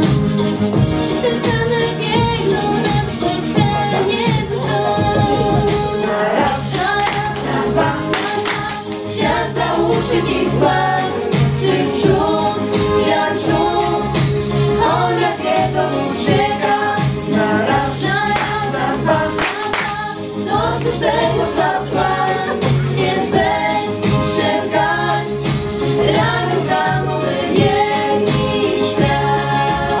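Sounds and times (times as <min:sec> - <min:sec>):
mixed voices singing in harmony: 0:01.1 - 0:30.0.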